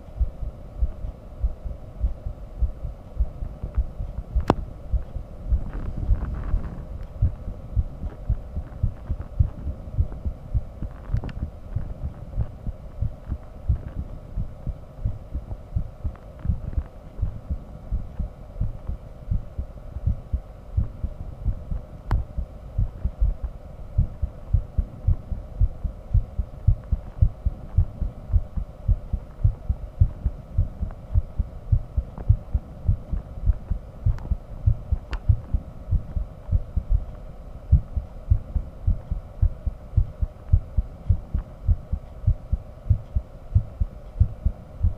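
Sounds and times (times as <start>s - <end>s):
faint steady hum: 0.0s - 44.9s
heartbeat thumps: 0.2s - 44.9s.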